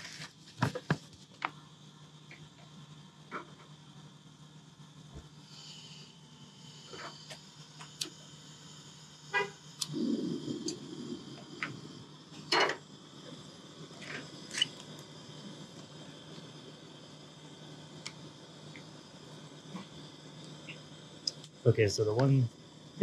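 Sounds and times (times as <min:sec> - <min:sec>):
gas burner lighting rush: 0:00.0 - 0:01.4, 0:02.2 - 0:23.0.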